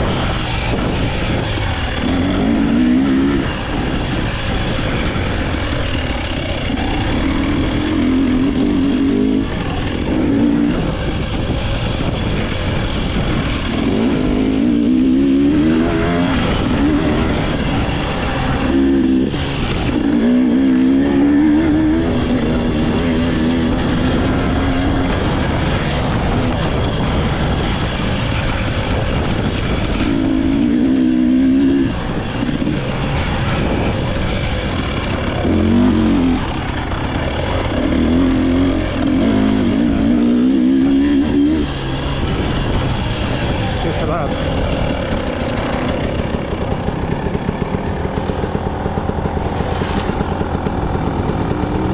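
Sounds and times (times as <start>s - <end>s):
constant rushing noise: 0.0s - 51.9s
dirt bike engine revving: 0.0s - 51.9s.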